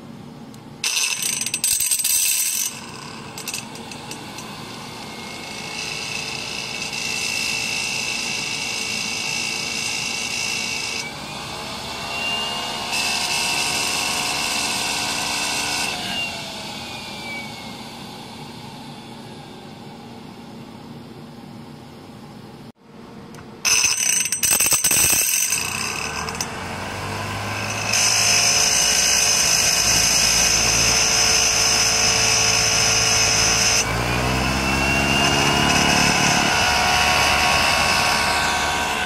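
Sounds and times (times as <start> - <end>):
turbine starter whining: 0.0 - 20.2, 23.6 - 39.0
rotor spinning down: 0.8 - 20.0, 23.7 - 39.0.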